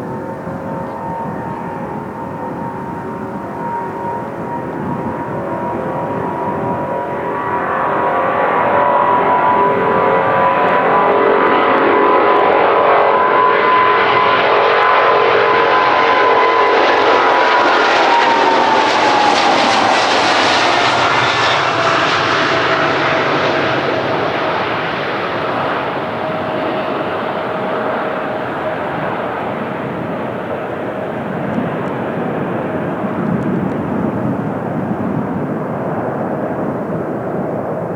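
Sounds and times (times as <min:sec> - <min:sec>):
jet engine whine: 0:00.0 - 0:37.9
jet engines roaring: 0:00.0 - 0:37.9.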